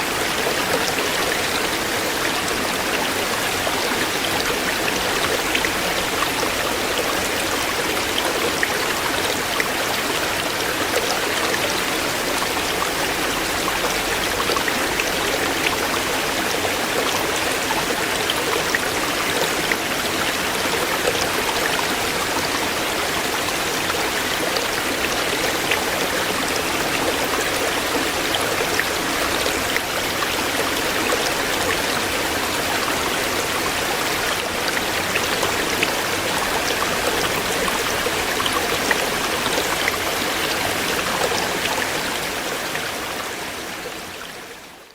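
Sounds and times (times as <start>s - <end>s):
stream flowing over stones: 0.0s - 44.9s.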